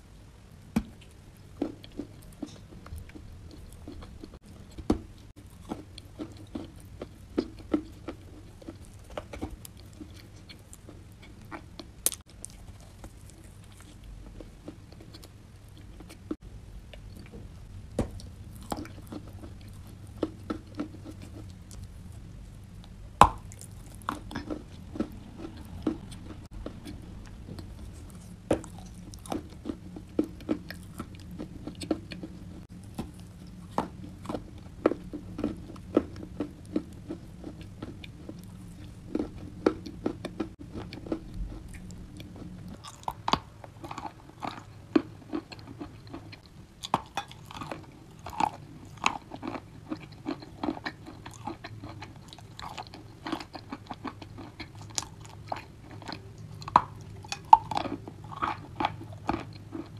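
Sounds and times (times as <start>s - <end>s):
steady low hum: 0.0s - 59.9s
crunching and chewing chalk: 0.6s - 59.9s.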